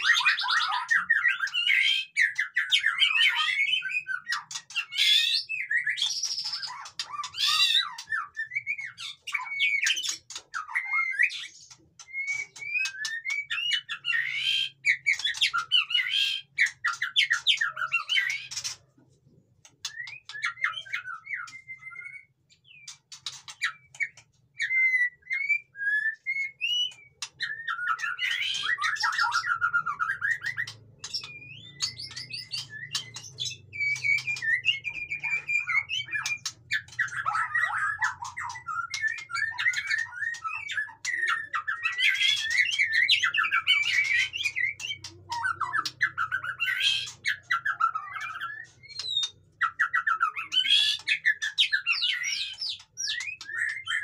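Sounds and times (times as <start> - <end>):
songbird whistles and trills: 0.0 - 54.0.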